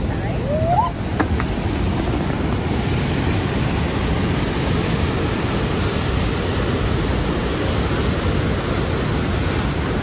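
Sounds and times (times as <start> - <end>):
rushing white water: 0.0 - 10.0.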